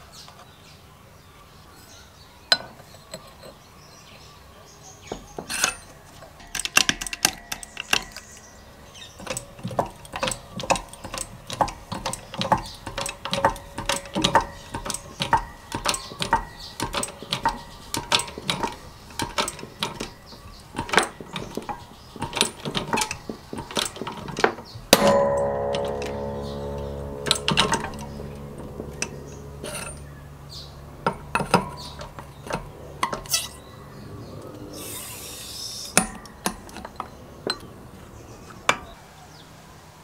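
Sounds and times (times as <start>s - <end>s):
hydraulic press clicking and clanking: 5.1s - 37.7s.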